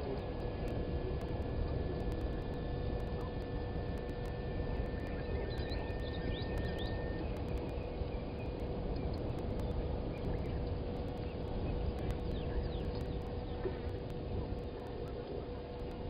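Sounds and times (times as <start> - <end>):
faint hum: 0.0 - 16.0
low outdoor rumble: 0.0 - 16.0.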